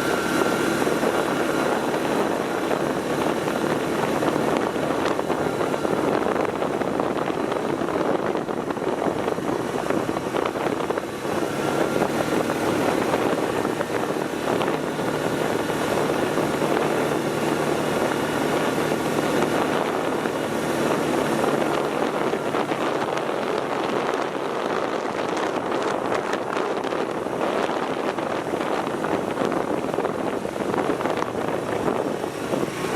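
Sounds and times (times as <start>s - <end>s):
dense rushing noise: 0.0s - 32.9s
vehicle engine running: 0.0s - 32.9s.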